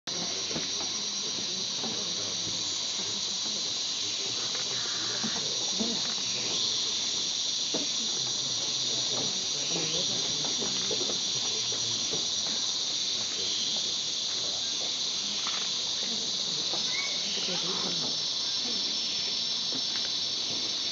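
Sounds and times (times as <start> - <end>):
rainforest insects droning: 0.1 - 20.9.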